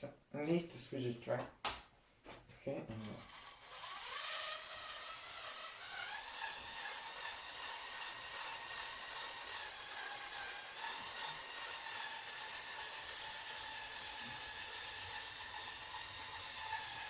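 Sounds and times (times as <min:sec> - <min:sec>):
toy train motor whining: 0:02.9 - 0:17.0.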